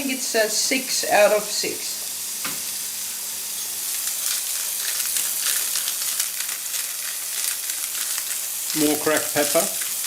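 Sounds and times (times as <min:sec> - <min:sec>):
patties sizzling in oil: 0:00.0 - 0:10.0.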